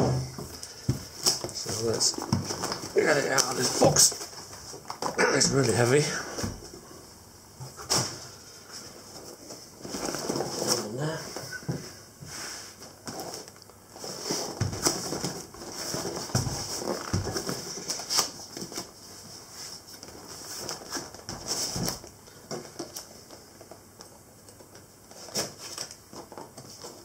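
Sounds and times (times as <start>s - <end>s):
cardboard rustling and scraping: 0.0s - 6.8s, 7.6s - 23.9s, 24.6s - 27.0s.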